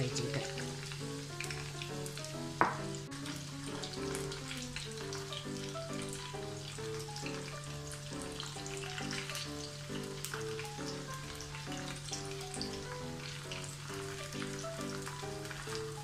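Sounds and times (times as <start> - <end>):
corn sizzling in hot oil: 0.0 - 16.0
soft background music: 0.0 - 16.0.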